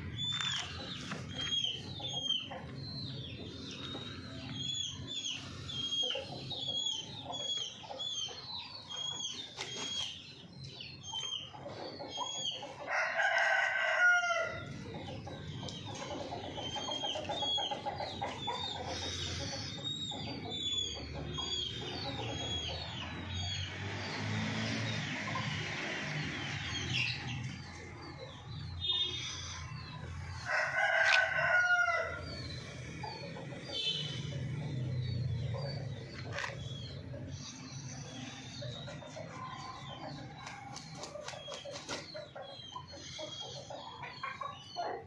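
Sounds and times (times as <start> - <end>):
chickens clucking: 0.0 - 14.0, 14.6 - 24.2, 24.9 - 45.0.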